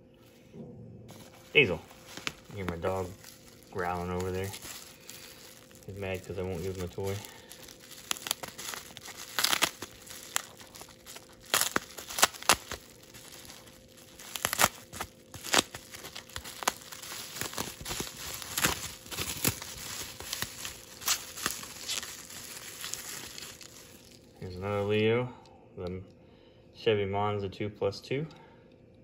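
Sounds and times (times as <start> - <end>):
bubble wrap crackling: 1.1 - 25.0.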